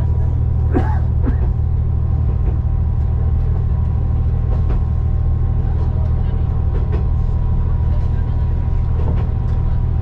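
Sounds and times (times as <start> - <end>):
railcar engine drone: 0.0 - 10.0.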